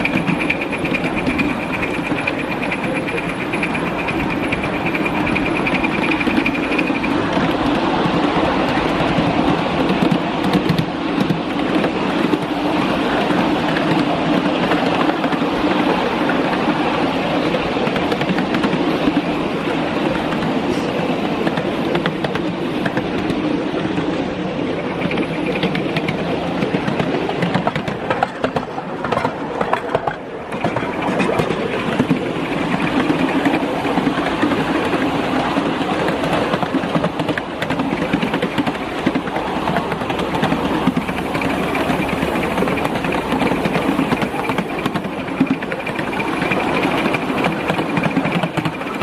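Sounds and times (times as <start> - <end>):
model steam train rushing: 0.0 - 49.0.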